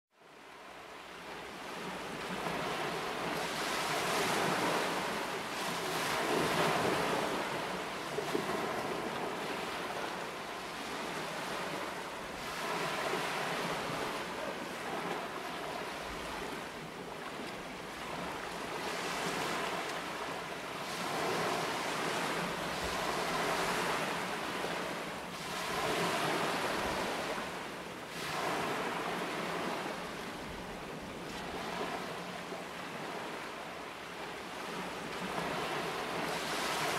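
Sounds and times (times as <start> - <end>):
water splashing along boat hull: 2.0 - 36.9.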